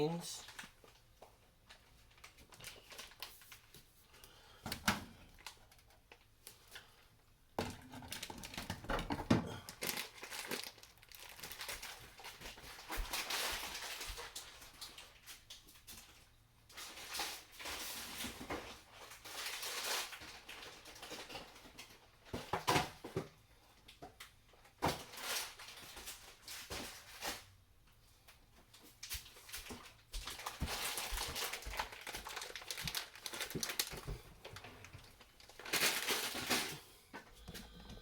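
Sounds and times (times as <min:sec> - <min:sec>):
food packages rustling and crinkling: 0:00.0 - 0:38.0.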